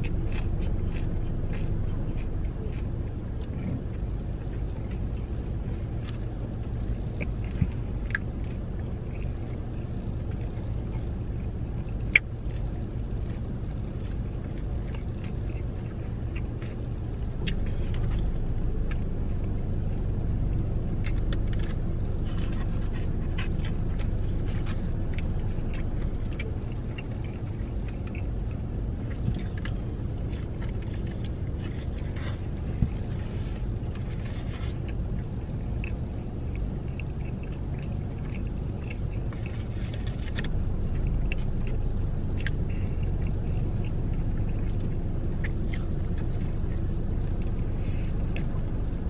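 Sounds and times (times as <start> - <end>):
car cabin rumble: 0.0 - 49.0
chewing food: 0.0 - 49.0.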